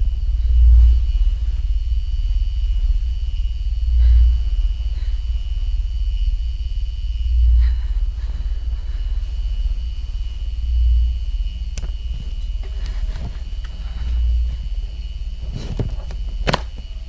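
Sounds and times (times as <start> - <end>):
deep low rumble: 0.0 - 17.0
faint high whine: 0.0 - 17.0.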